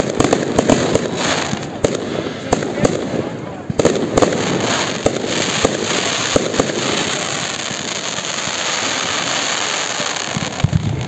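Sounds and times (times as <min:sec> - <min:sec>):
fireworks bangs: 0:00.0 - 0:11.0
fireworks hissing: 0:00.0 - 0:11.0.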